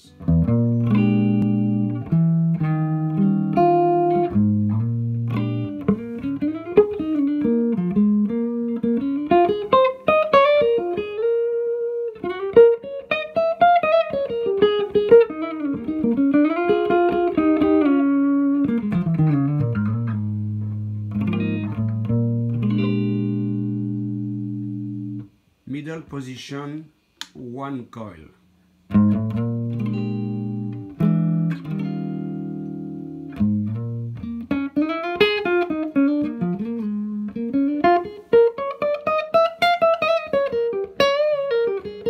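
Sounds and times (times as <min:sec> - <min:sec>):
electric guitar through amplifier: 0:00.0 - 0:25.3, 0:28.9 - 0:42.0.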